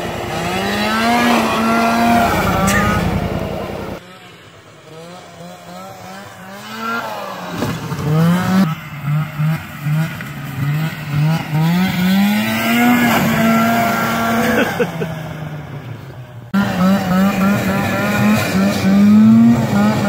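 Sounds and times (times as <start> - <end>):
snowmobile engine revving: 0.0 - 20.0.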